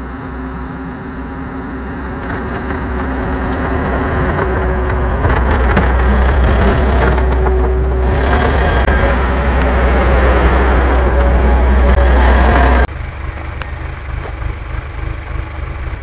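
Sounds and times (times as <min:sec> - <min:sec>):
track loader engine droning: 0:00.0 - 0:16.0.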